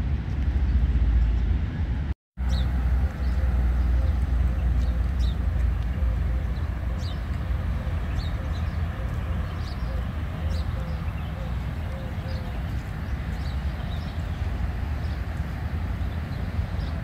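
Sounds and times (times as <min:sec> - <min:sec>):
steady low rumble: 0:00.0 - 0:17.0
birds chirping: 0:02.4 - 0:17.0.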